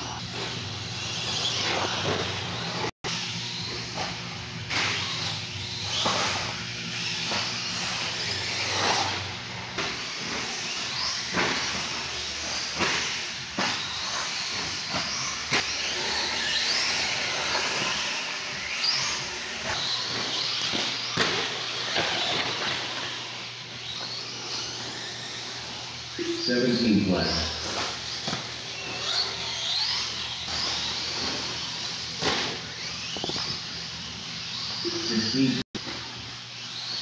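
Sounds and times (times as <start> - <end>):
toy car motors whining: 0.0 - 37.0.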